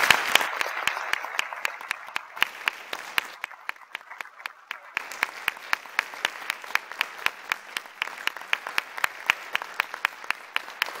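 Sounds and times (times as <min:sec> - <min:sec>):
audience applauding: 0:00.0 - 0:11.0
person clapping close by: 0:00.0 - 0:11.0.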